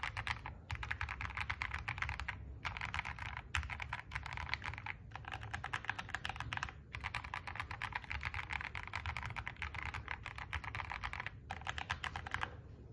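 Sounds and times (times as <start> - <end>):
rapid irregular clicking: 0.0 - 12.7.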